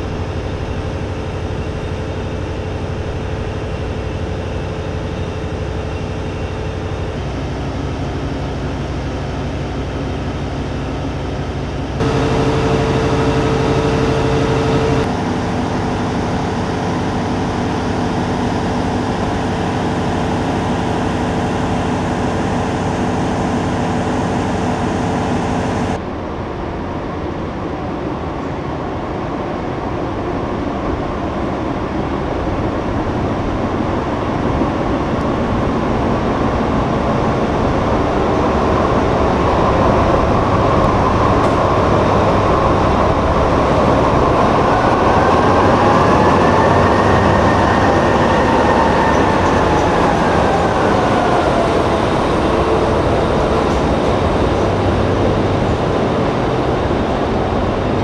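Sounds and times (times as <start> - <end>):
train approaching: 0.0 - 58.0
diesel power car humming: 0.1 - 15.9, 17.4 - 26.0, 32.7 - 58.0.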